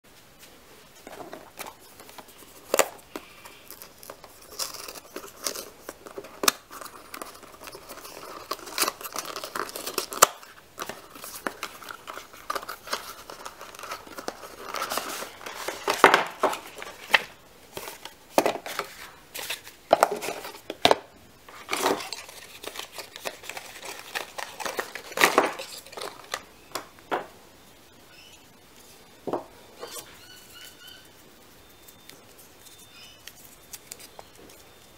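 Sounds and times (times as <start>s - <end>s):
cardboard packaging rustling and tearing: 1.0s - 26.5s, 31.7s - 34.9s.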